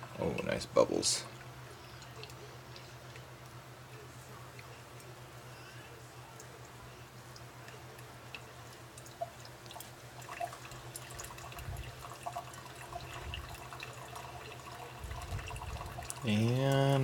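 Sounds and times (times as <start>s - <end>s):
water dripping through coffee filter: 0.0s - 5.5s, 6.2s - 17.0s
low steady hum: 0.0s - 17.0s.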